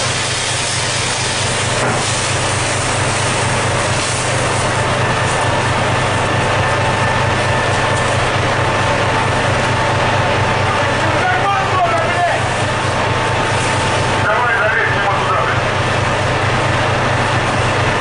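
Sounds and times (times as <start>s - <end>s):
boat engine and machinery running: 0.0s - 18.0s
fire hose spraying water: 0.0s - 18.0s.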